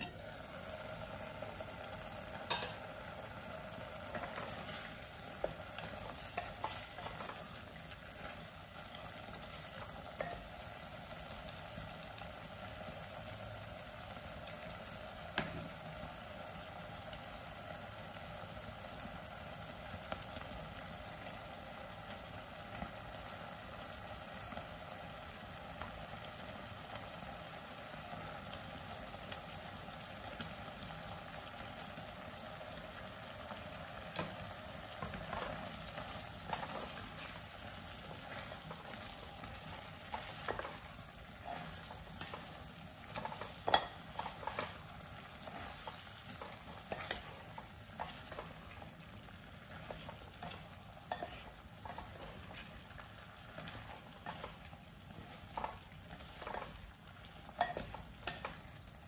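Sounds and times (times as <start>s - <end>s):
soup bubbling in a pot: 0.0s - 59.0s.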